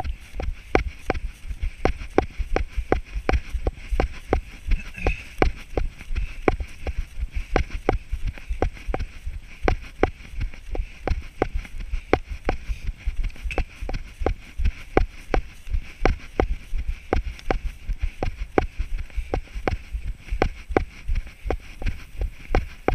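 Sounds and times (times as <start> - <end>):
running footsteps on grass: 0.0 - 22.9.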